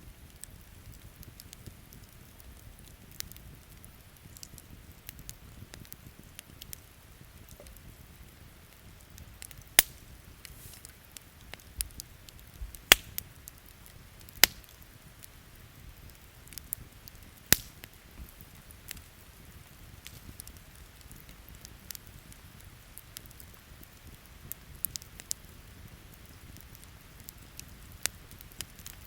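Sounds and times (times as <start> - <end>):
campfire crackling and popping: 0.0 - 29.0
rain hiss: 0.0 - 29.0.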